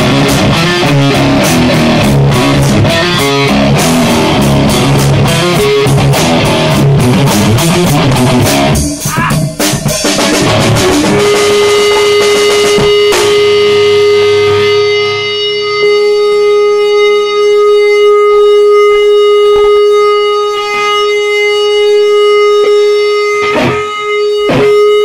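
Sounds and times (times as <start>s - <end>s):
electric guitar sustained note: 0.0s - 8.9s, 10.4s - 25.0s.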